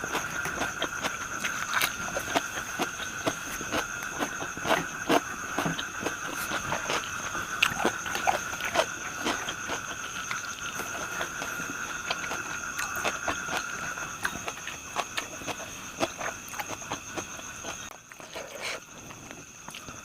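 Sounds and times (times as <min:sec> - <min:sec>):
chewing and crunching: 0:00.0 - 0:20.0
high-pitched insect drone: 0:00.0 - 0:20.0.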